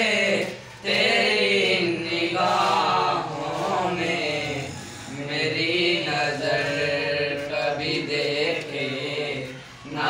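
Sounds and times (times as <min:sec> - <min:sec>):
boys singing without accompaniment: 0:00.0 - 0:10.0.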